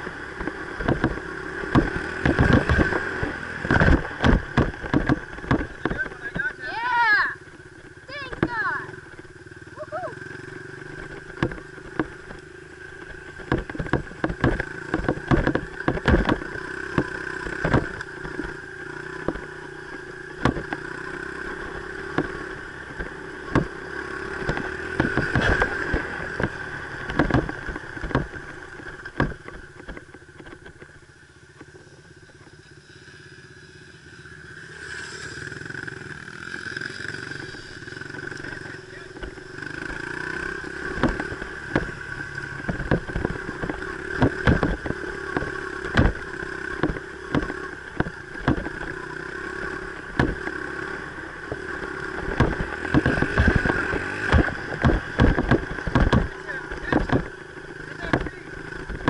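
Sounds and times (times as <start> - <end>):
knocks and rattles: 0.0 - 6.6, 7.5 - 9.3, 10.9 - 32.4, 37.4 - 59.0
dirt bike engine running: 0.0 - 59.0.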